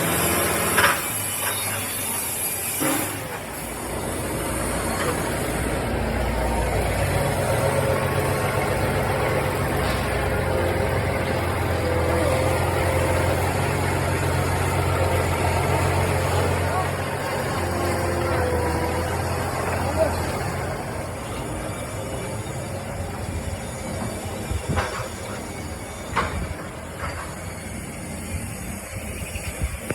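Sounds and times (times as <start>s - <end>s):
heavy vehicle engine running: 0.0s - 29.9s.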